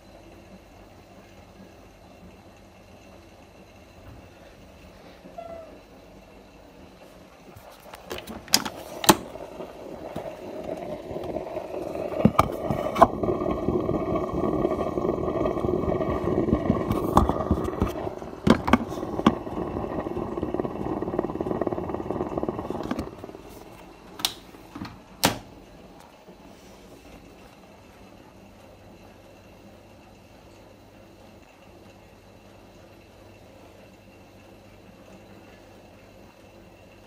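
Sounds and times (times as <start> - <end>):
washing machine drum whirring: 0.0 - 37.0.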